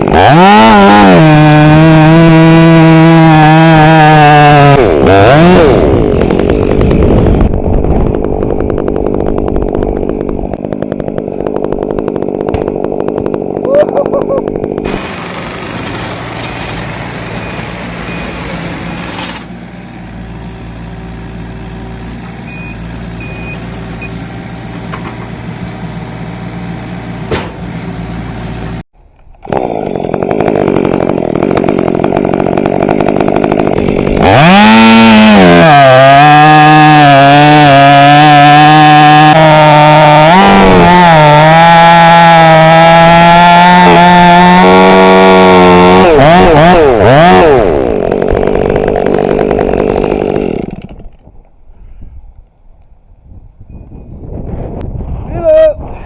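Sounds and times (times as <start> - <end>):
chainsaw running: 0.0 - 51.3.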